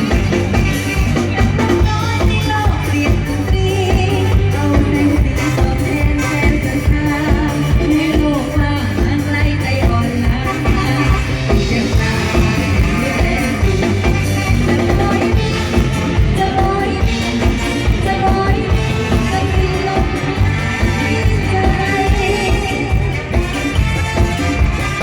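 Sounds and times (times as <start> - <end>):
person singing: 0.0 - 23.8
band playing steady beat: 0.0 - 25.0.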